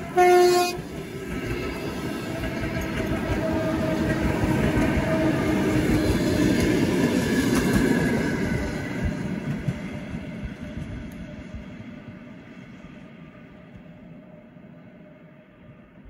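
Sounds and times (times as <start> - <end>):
train running past: 0.0 - 16.0.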